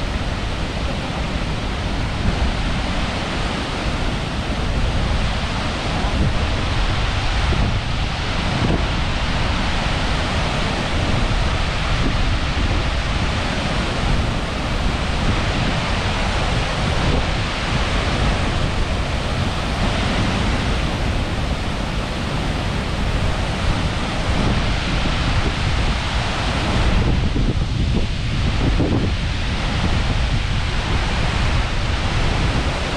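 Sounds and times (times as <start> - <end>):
waterfall roar: 0.0 - 32.9
wind buffeting microphone: 0.0 - 32.9.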